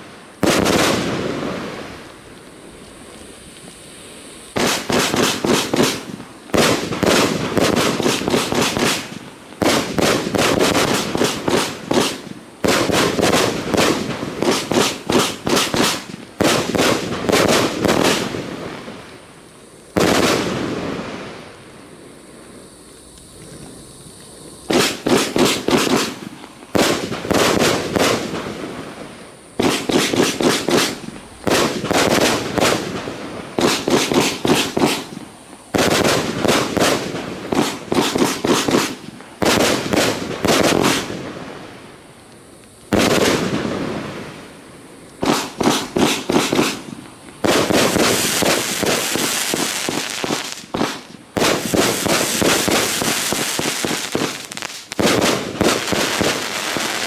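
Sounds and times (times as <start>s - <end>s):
fireworks bangs: 0.0s - 2.1s, 4.1s - 19.3s, 19.9s - 21.7s, 22.3s - 41.8s, 42.9s - 44.5s, 45.2s - 57.0s.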